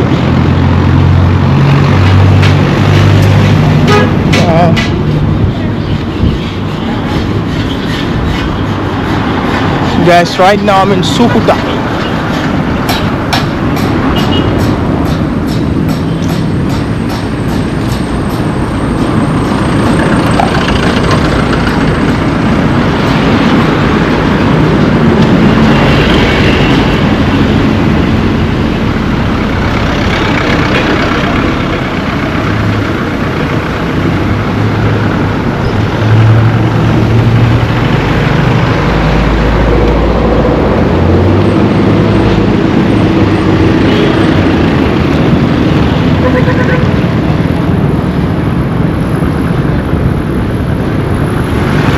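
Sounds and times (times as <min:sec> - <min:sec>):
vehicles passing: 0:00.0 - 0:51.9.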